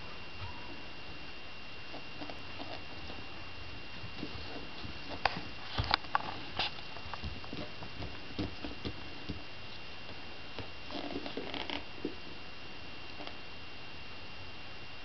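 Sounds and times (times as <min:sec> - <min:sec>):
faint high-pitched whine: 0:00.0 - 0:15.0
room hiss: 0:00.0 - 0:15.0.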